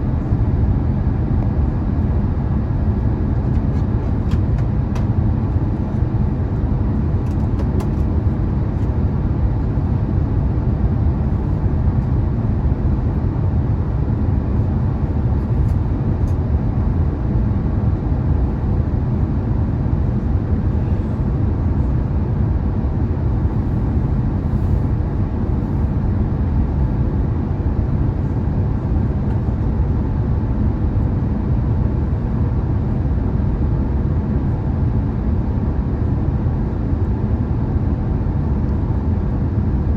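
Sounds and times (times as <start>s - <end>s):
airflow rushing in aircraft cabin: 0.0s - 39.9s.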